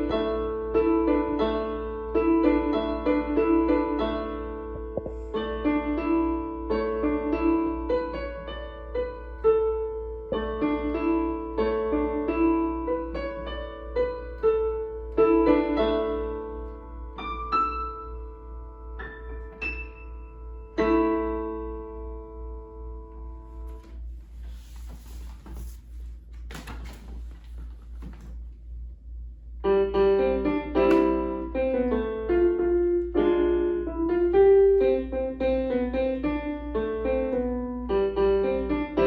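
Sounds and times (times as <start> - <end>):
solo piano: 0.0 - 39.0.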